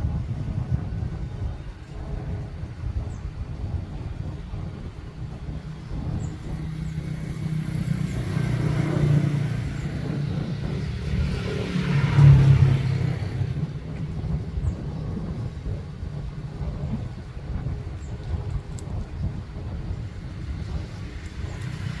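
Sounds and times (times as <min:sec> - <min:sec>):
engine rumbling: 0:00.0 - 0:22.0.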